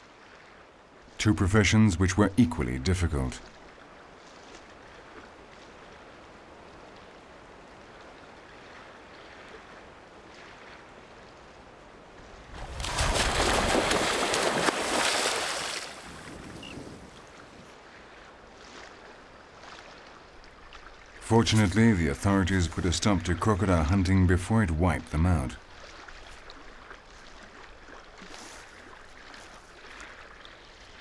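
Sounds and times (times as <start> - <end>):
soft water and wind: 0.0 - 31.0
water splashing and churning: 0.0 - 31.0.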